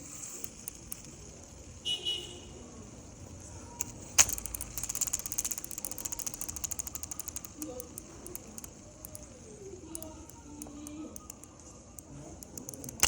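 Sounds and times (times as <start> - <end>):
fidget spinner click: 0.0 - 1.8, 3.0 - 13.0
fidget spinner ticking: 0.0 - 2.0, 2.6 - 13.0.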